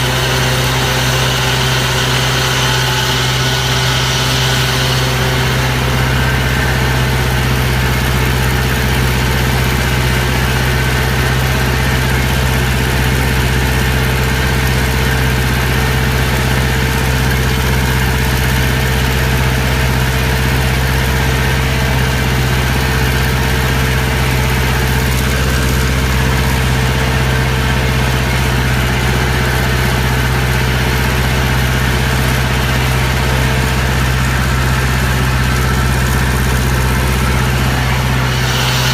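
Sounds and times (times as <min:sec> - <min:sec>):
farm machine engine droning: 0:00.0 - 0:38.9.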